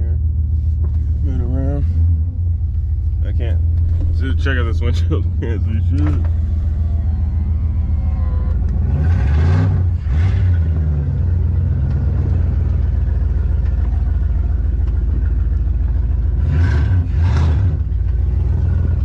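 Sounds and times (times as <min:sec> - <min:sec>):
pickup engine rumbling: 0:00.0 - 0:19.0.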